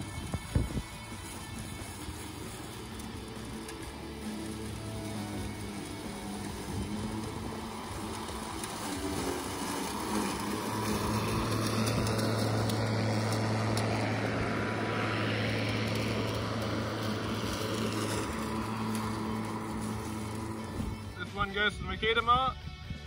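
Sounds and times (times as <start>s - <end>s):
blade cutting dry grass: 0.0s - 22.1s
electric lawnmower humming: 0.0s - 23.0s.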